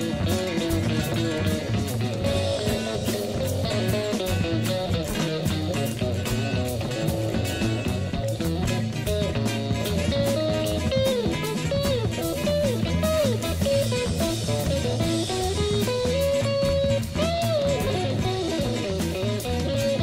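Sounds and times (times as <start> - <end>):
bass: 0.0 - 20.0
blues guitar melody: 0.0 - 20.0
drums: 0.0 - 20.0.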